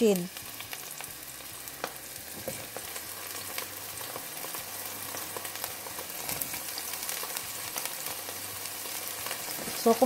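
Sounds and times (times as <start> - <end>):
aubergine sizzling in oil: 0.0 - 10.0.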